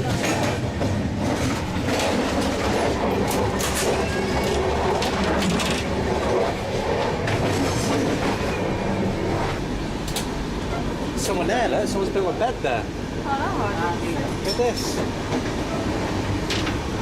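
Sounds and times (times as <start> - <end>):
train clanks and rattles: 0.0 - 17.0
train wheels rumbling on rails: 0.0 - 17.0.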